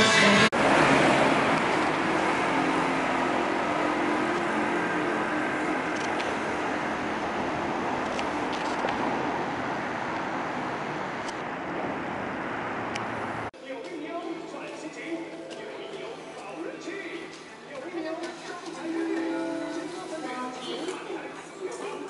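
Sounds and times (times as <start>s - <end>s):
street traffic hum: 0.0s - 22.0s.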